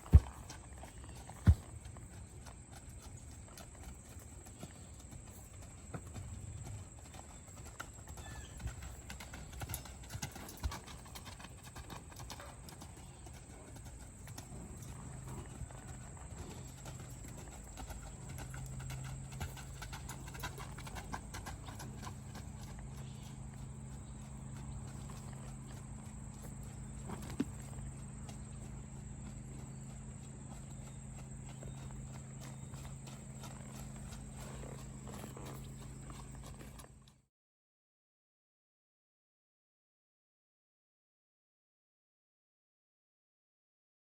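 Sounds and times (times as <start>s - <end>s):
horse hooves clip-clopping: 0.0s - 37.2s.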